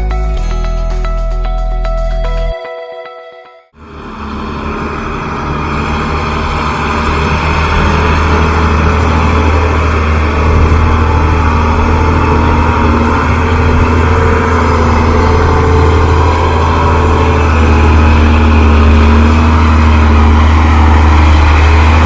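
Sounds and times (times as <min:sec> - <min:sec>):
diesel truck engine humming: 0:03.8 - 0:22.0.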